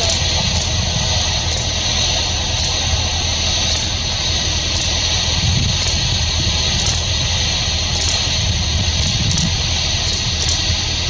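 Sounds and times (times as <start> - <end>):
distant rocket launch rumble: 0.0 - 11.0.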